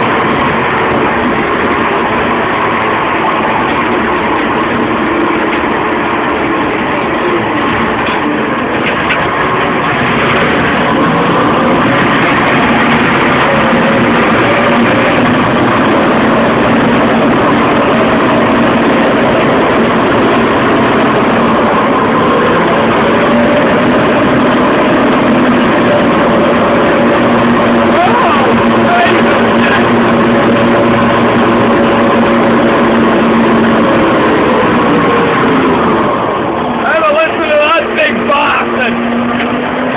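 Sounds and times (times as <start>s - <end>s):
bulldozer diesel engine running: 0.0s - 39.9s
mechanical clatter: 0.0s - 39.9s.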